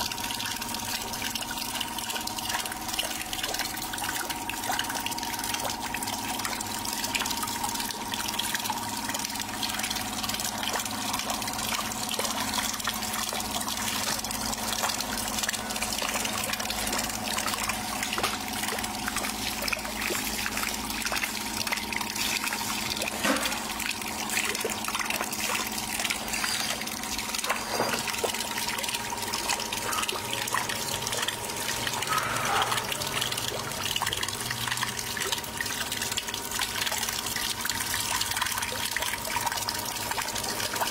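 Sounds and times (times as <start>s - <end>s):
water splashing and churning: 0.0s - 40.9s.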